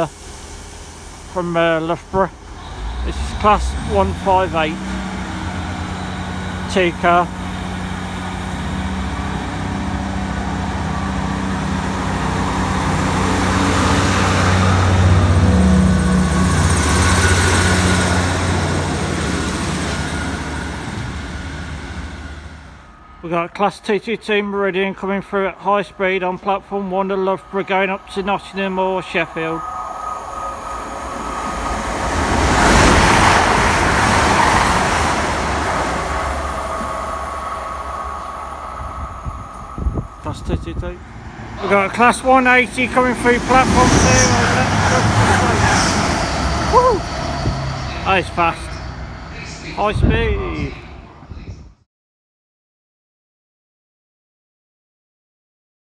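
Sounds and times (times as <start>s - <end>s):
diesel train passing: 0.0s - 51.5s.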